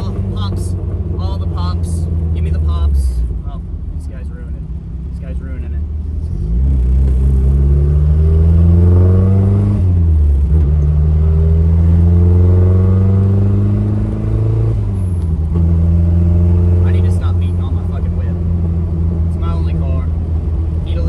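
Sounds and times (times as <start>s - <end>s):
car engine accelerating hard: 0.0s - 4.4s, 5.0s - 21.0s.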